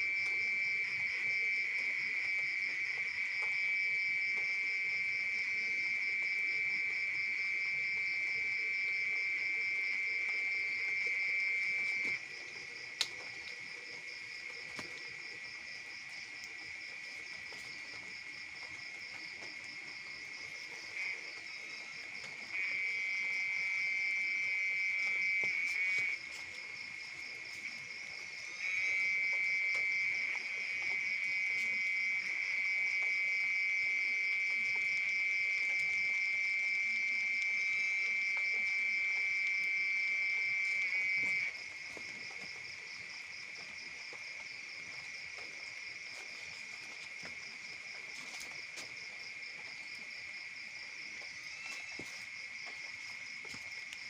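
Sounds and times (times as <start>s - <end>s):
nearer insect trill: 0.0s - 54.0s
night insect chorus: 0.0s - 54.0s.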